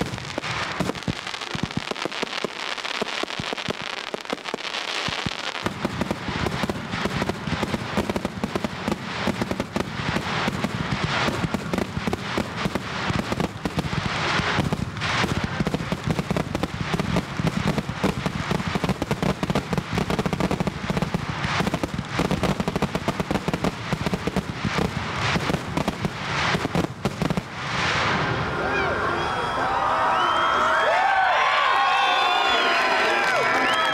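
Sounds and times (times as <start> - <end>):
fireworks bangs and crackles: 0.0 - 28.9, 31.0 - 33.9.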